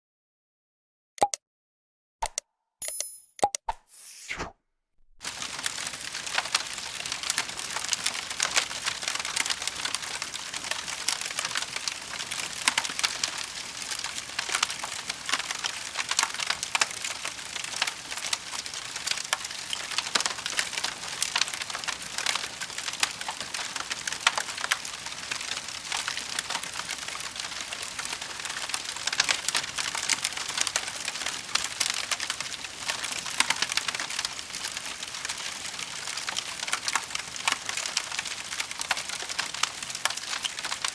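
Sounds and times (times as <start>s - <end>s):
fire crackling: 5.2s - 40.9s.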